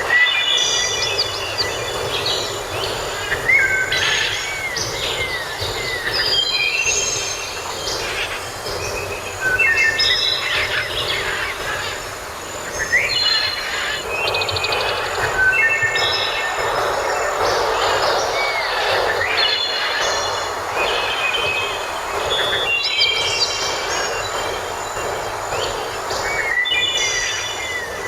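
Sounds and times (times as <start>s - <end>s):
birds calling and singing: 0.0s - 28.0s
steady background hiss: 0.0s - 28.0s.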